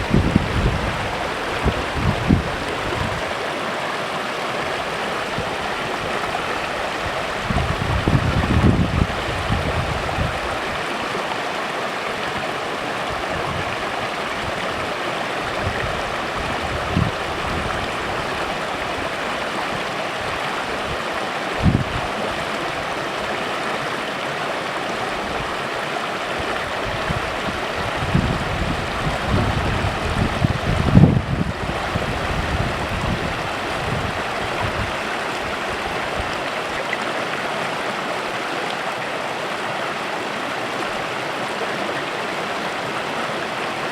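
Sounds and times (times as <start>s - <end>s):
creek babbling over stones: 0.0s - 43.9s.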